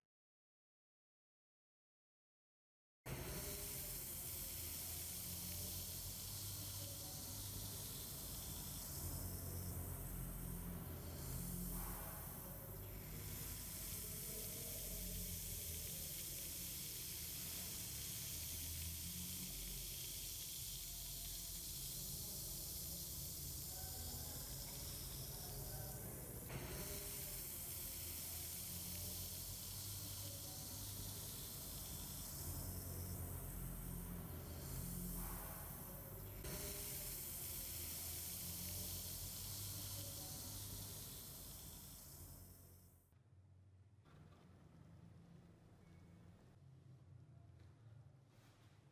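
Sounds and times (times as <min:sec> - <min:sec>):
gas bubbles fizzing: 0:03.1 - 0:42.5.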